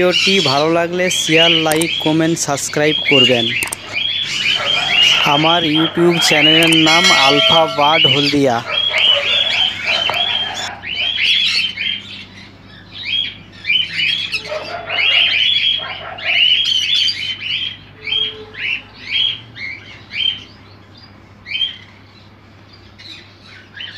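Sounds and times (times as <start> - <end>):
parrots chirping harshly: 0.0 - 22.0.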